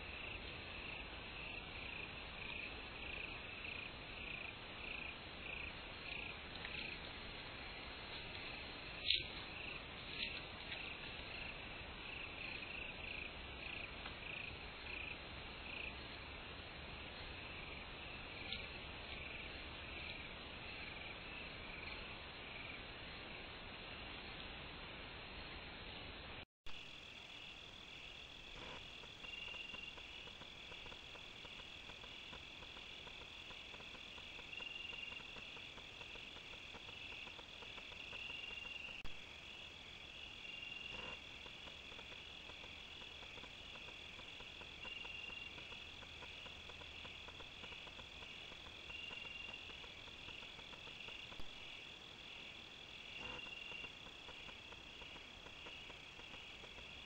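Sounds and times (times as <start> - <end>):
crickets trilling: 0.0 - 16.2, 26.7 - 57.0.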